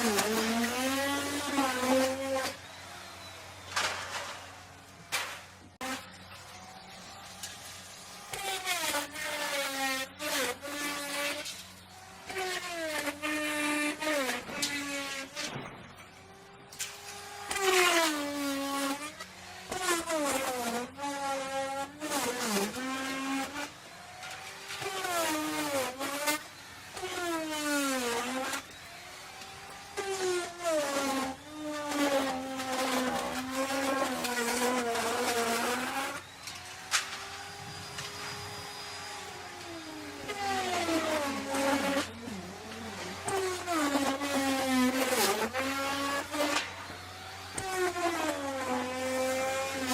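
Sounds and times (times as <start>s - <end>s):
hiss of cutting wood: 0.0s - 6.1s, 7.4s - 15.8s, 16.7s - 49.9s
electric router motor whine: 0.0s - 49.9s.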